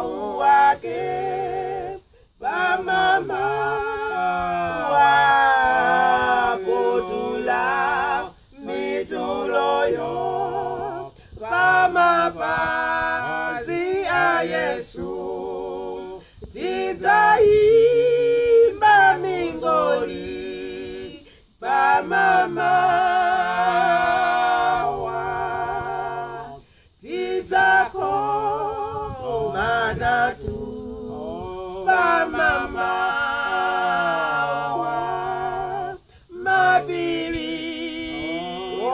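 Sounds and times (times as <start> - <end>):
people singing in harmony: 0.0 - 38.9.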